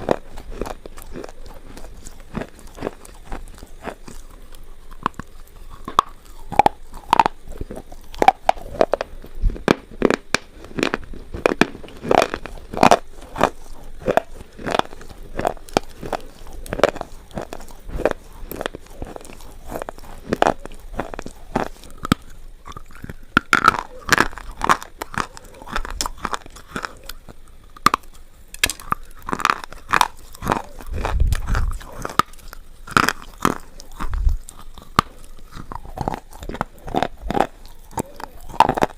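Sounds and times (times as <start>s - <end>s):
chewing crunches: 0.0s - 38.9s.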